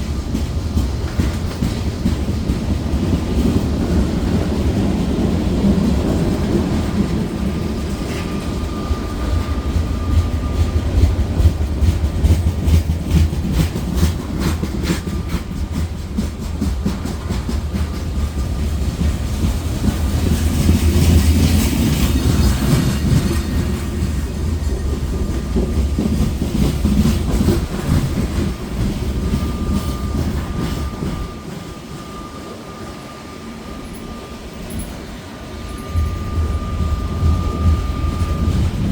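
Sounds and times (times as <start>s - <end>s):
train wheels rumbling and clicking: 0.0s - 38.9s.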